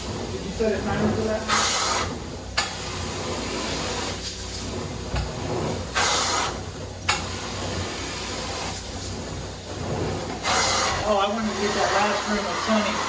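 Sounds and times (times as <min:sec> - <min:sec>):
vacuum wand airflow hissing: 0:00.0 - 0:13.0.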